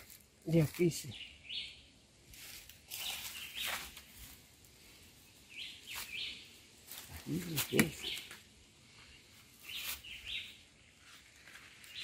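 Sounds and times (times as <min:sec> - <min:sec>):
leaves and stems rustling: 0:00.0 - 0:01.1, 0:02.2 - 0:12.0
birds chirping: 0:00.5 - 0:02.2, 0:02.9 - 0:12.0.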